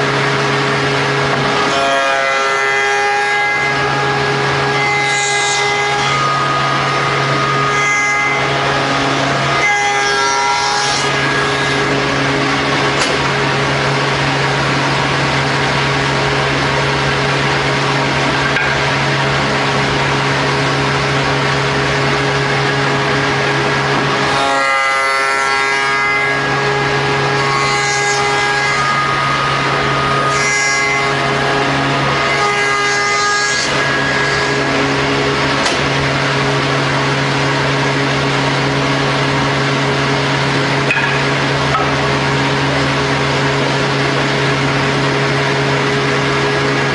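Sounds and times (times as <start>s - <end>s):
machine motor hum: 0.0s - 46.9s.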